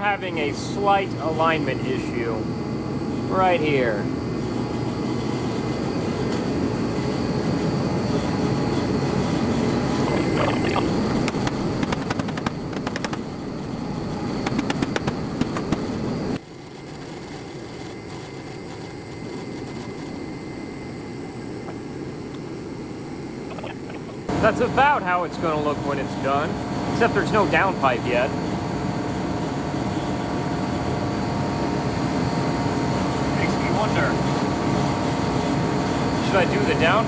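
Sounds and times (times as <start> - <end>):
heater roaring: 0.0 - 16.4, 19.0 - 37.0.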